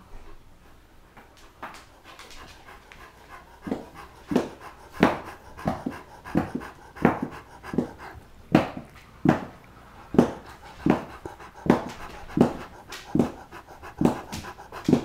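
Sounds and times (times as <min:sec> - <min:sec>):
dog panting: 0:00.1 - 0:15.0.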